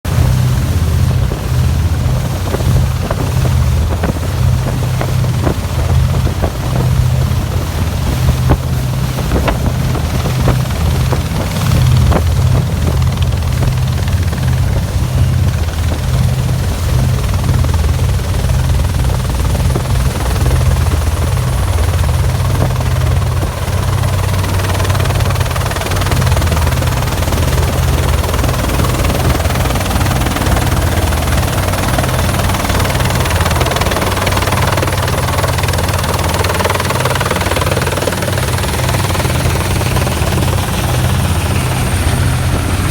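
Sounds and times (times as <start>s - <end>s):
helicopter rotor beat: 0.0s - 42.9s
motorboat engines droning: 0.1s - 42.9s.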